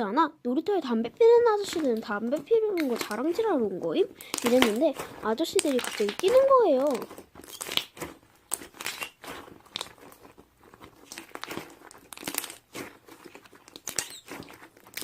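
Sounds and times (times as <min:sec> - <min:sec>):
slime squeezed by hand crackling: 0:01.5 - 0:15.0.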